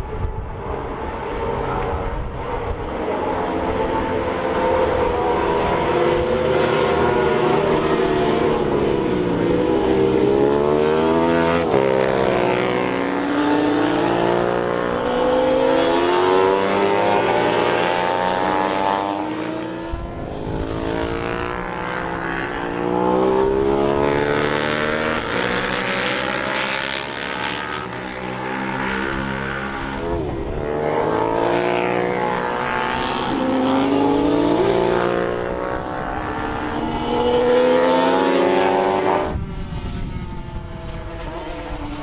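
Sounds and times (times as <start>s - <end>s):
racing motorcycles passing: 0.0s - 42.0s.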